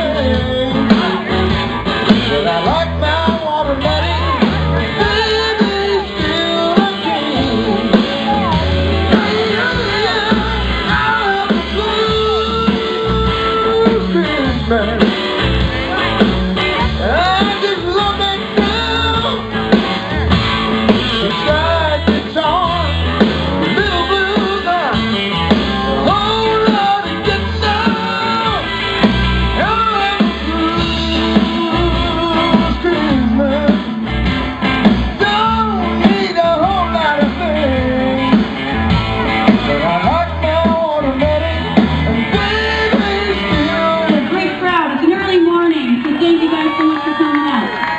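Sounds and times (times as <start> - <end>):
live band playing blues rock: 0.0 - 47.9.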